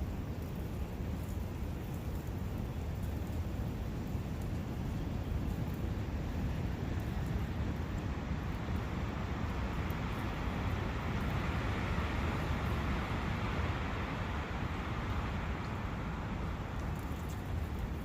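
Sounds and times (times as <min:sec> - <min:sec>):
wind blowing through trees: 0:00.0 - 0:18.0.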